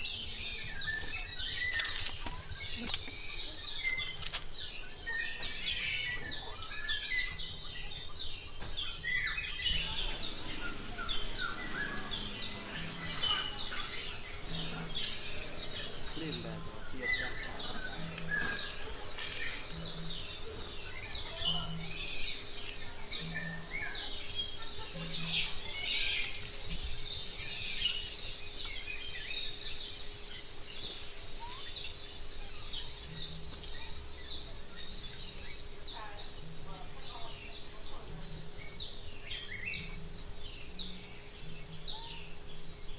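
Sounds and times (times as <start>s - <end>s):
birds chirping and twittering: 0.0s - 42.9s
pulsing insect chorus: 0.0s - 42.9s.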